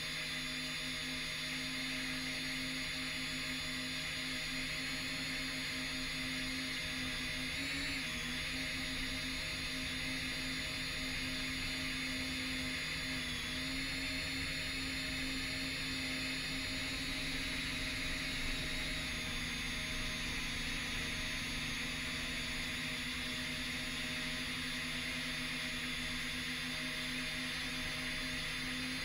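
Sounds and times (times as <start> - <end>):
quadcopter motors humming: 0.0 - 29.0.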